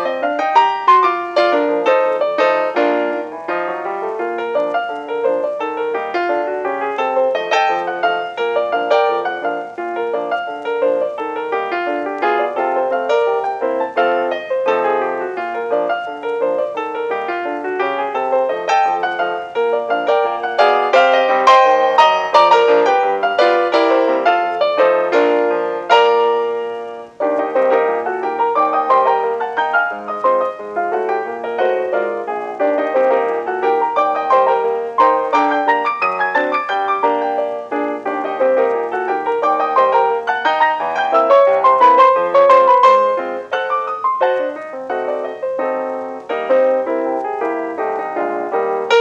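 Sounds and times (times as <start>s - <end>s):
bouncy solo piano music: 0.0s - 49.0s.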